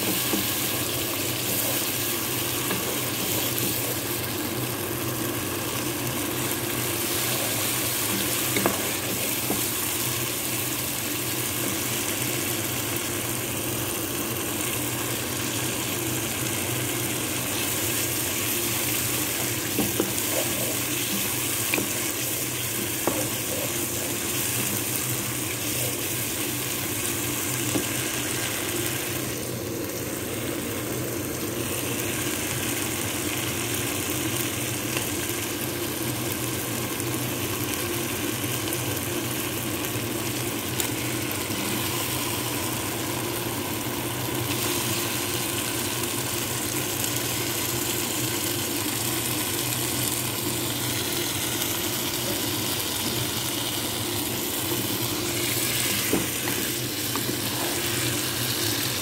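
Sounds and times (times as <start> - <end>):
paste sizzling in oil in a pan: 0.0 - 59.0.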